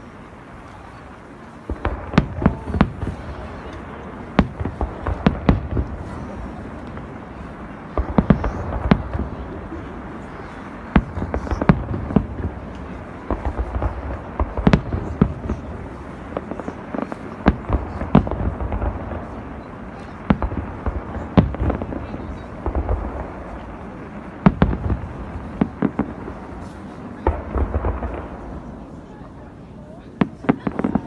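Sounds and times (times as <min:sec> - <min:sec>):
rumble of explosions: 0:00.0 - 0:31.0.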